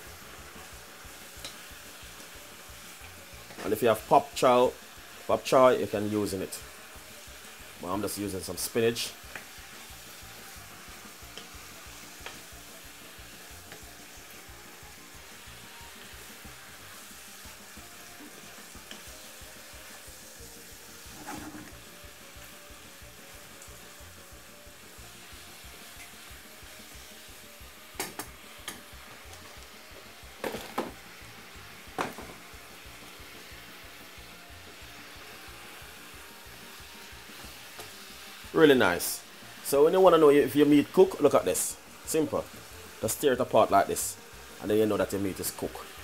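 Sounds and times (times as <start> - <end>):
food sizzling in a frying pan: 0.0 - 46.0.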